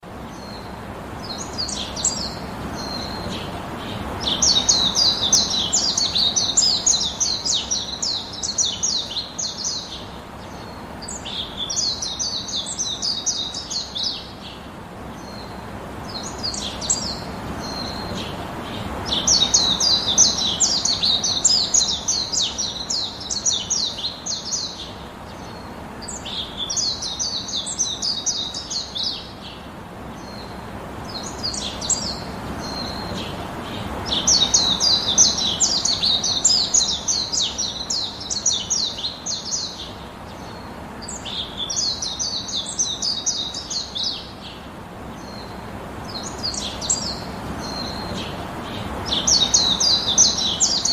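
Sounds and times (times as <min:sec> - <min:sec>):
low background hiss: 0:00.0 - 0:50.9.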